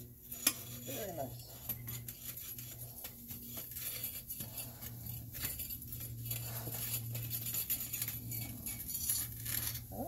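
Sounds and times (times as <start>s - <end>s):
furnace burner blower humming: 0.0s - 10.0s
metallic clinks and scrapes: 0.0s - 10.0s.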